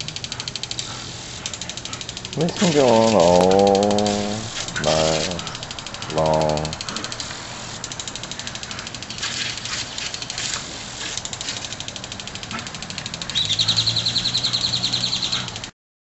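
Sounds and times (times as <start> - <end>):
lawn sprinkler ticking: 0.0 - 15.7.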